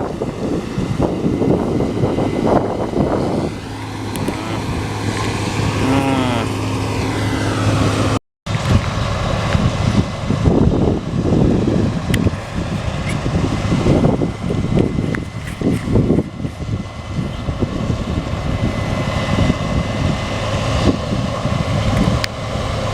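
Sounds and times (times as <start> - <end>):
diesel engine drone: 0.0 - 22.9
wavering whine: 0.0 - 22.9
wind buffeting microphone: 0.0 - 22.9.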